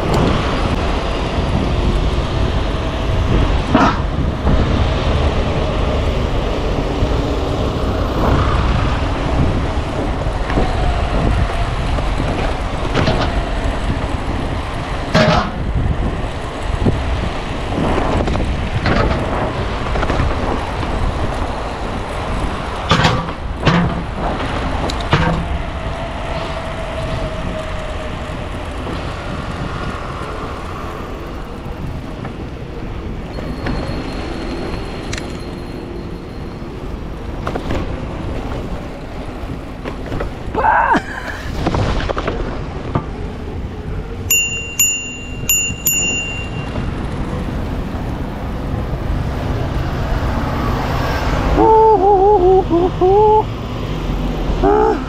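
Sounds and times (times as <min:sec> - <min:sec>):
road traffic: 0:00.0 - 0:55.0
wind on microphone: 0:00.0 - 0:55.0.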